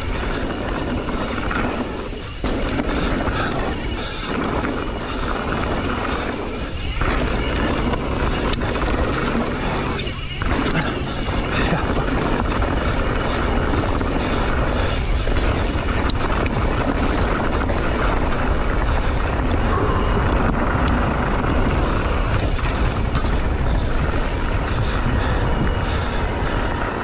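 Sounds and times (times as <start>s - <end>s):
bike clicks and rattles: 0.0s - 27.0s
wind rumble on microphone: 0.0s - 27.0s.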